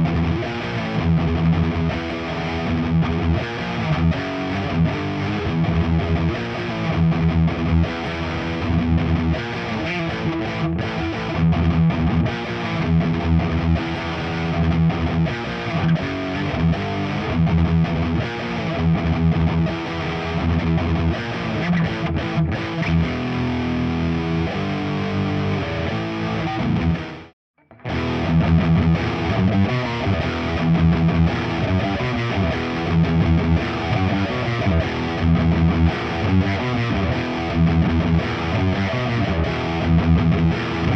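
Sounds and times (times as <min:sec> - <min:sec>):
electric guitar riffing: 0:00.0 - 0:40.9.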